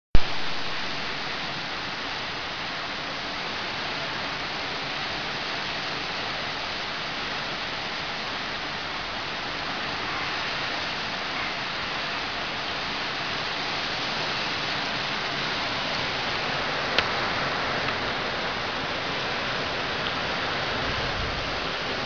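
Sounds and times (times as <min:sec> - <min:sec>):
heavy rain on leaves: 0:00.2 - 0:22.0.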